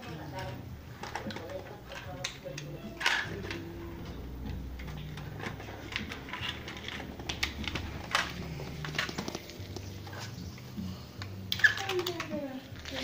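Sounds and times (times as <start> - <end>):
toy cars tapping on tile floor: 0.0 - 3.8, 4.4 - 13.0.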